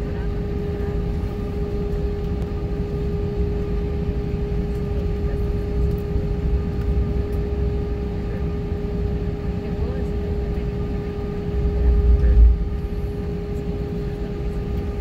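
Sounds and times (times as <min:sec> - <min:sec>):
jet engines humming in cabin: 0:00.0 - 0:15.0.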